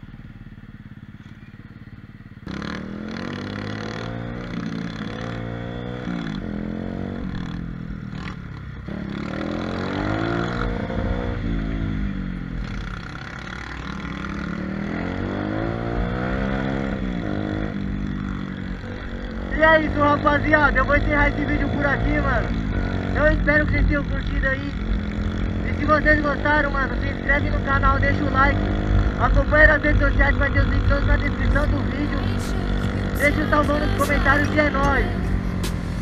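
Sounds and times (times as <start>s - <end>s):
small motorbike engine revving: 2.4s - 36.0s.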